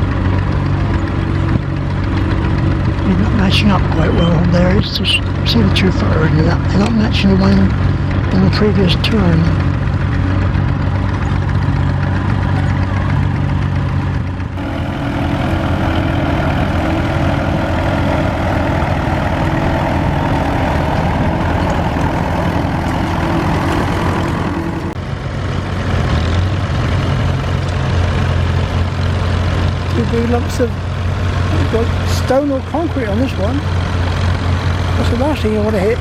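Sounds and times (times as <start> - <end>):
tractor engines running: 0.0 - 36.0.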